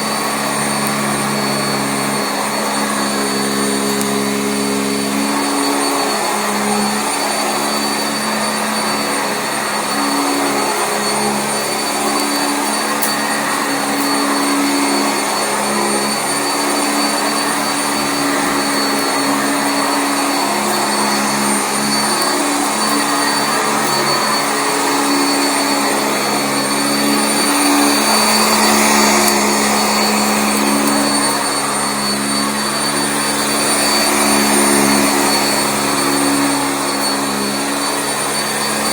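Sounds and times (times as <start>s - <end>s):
upright vacuum running on carpet: 0.0s - 38.9s.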